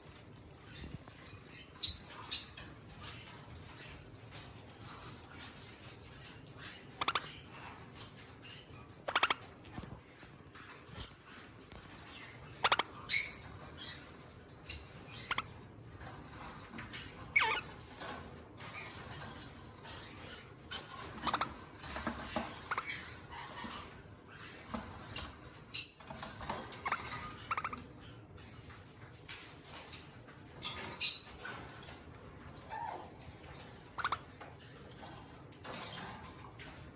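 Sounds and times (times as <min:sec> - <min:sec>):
parrots calling: 0:00.6 - 0:16.0, 0:16.6 - 0:28.8, 0:29.4 - 0:35.0.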